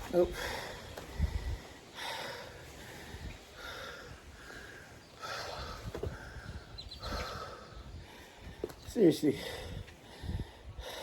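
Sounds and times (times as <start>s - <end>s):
person breathing heavily: 0.0s - 11.0s.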